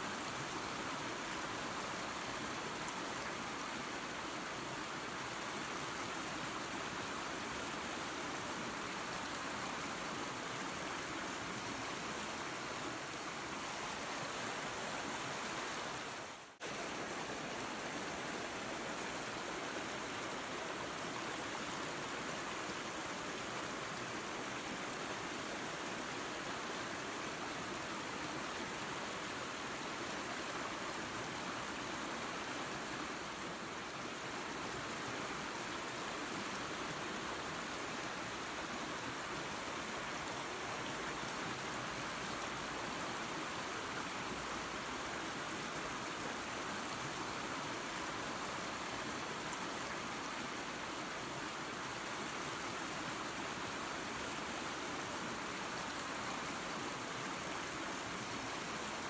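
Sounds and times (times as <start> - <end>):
waterfall and creek rushing: 0.0 - 59.0.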